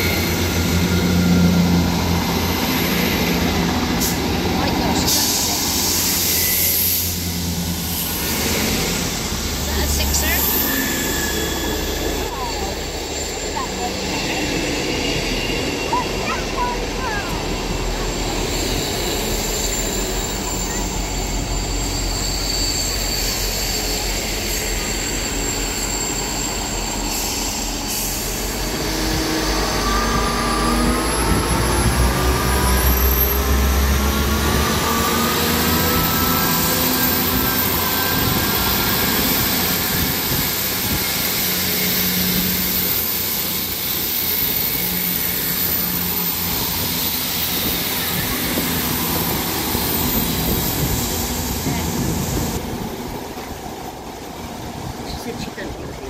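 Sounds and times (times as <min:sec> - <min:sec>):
diesel train engines revving: 0:00.0 - 0:56.0.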